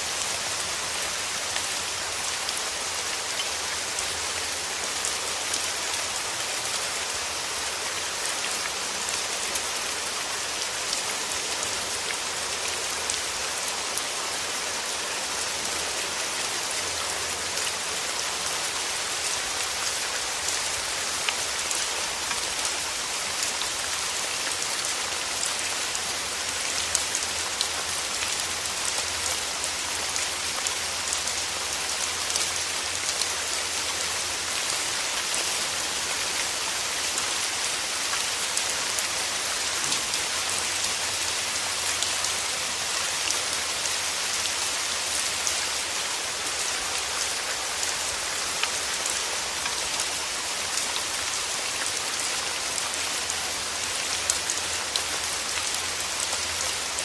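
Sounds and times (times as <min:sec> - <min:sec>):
rain falling on a surface: 0:00.0 - 0:57.0.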